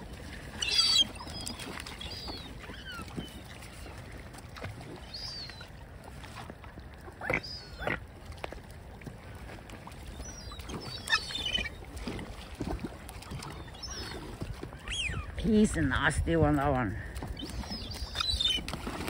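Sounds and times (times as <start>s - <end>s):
low rumble of wind or water: 0.0s - 19.0s
water birds calling: 0.0s - 19.0s.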